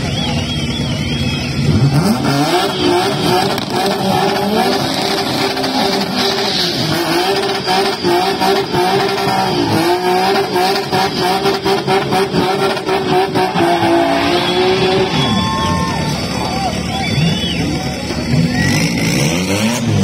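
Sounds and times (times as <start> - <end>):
drag car engines revving: 0.0 - 20.0
tyre squeal: 0.1 - 19.9.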